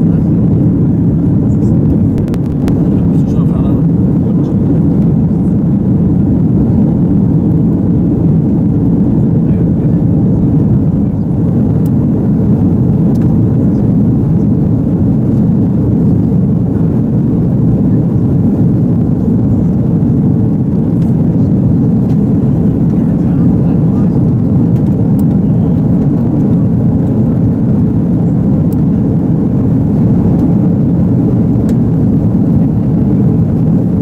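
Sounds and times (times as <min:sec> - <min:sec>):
aircraft cabin engine and airflow noise: 0:00.0 - 0:34.0.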